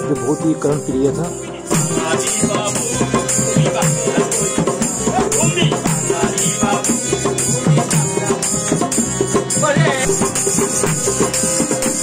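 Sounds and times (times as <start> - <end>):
dholak drum beat: 0.0 - 12.0
harmonium chords: 0.0 - 12.0
person singing: 0.2 - 12.0.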